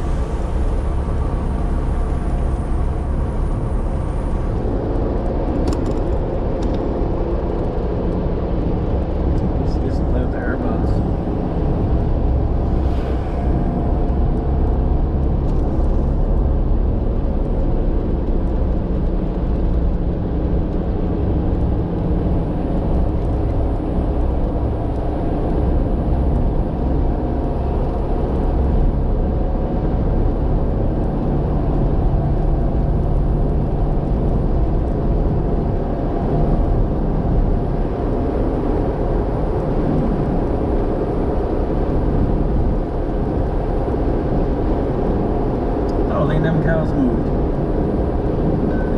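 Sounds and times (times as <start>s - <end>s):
vehicle engine and road noise: 0.0s - 48.9s.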